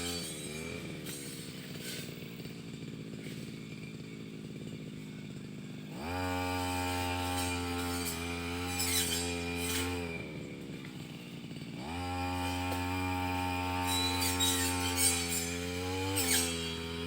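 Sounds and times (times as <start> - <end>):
brush cutter engine revving: 0.0 - 17.0.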